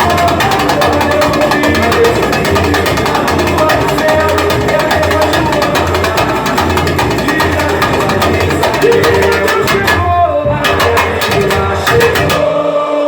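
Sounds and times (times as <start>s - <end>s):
low drum pulse: 0.0s - 12.5s
sharp tamborim strikes: 0.0s - 12.6s.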